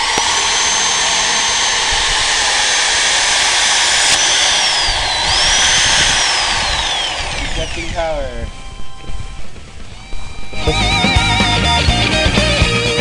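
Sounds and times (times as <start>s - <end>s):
electric drill drilling into board: 0.0s - 10.5s.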